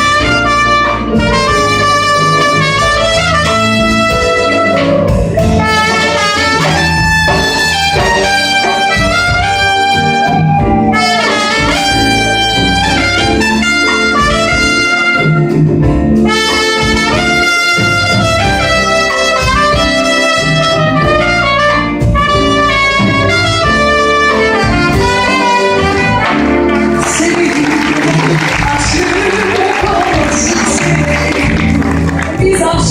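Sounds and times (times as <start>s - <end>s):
jazz rhythm section: 0.0s - 32.9s
saxophone and trumpet melody: 0.0s - 32.9s.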